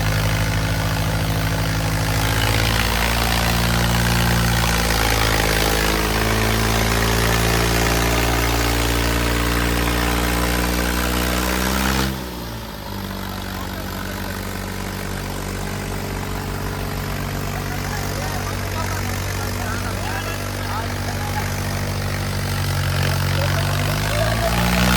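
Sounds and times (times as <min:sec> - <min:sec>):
tractor diesel engines: 0:00.0 - 0:24.9.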